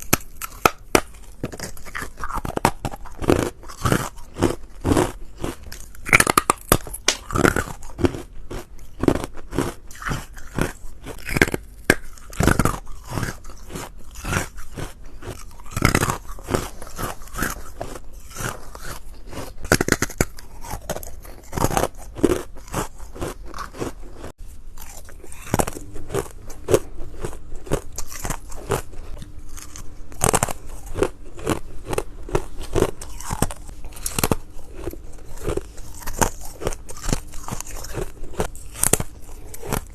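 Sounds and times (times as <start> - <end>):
teeth crunching ice: 0.0 - 39.9.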